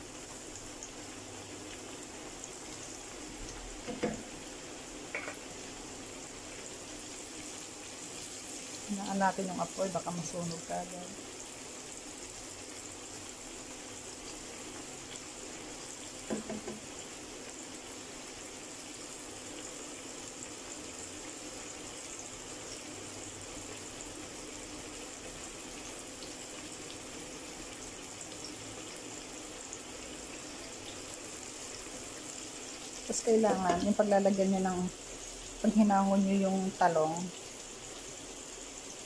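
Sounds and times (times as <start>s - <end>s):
oil sizzling and crackling: 0.0s - 39.0s.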